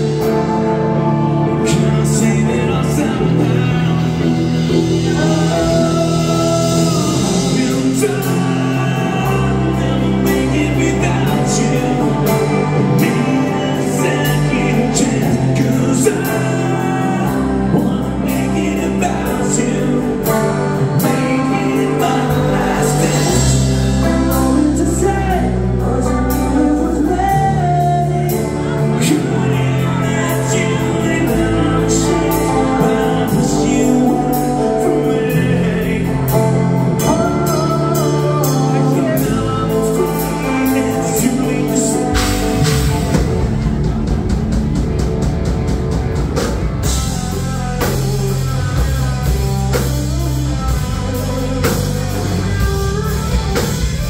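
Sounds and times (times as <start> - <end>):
drum kit beat: 0.0 - 26.5, 35.3 - 54.0
man singing: 0.0 - 44.3, 46.8 - 54.0
electric bass: 0.0 - 54.0
electric guitar: 0.0 - 54.0.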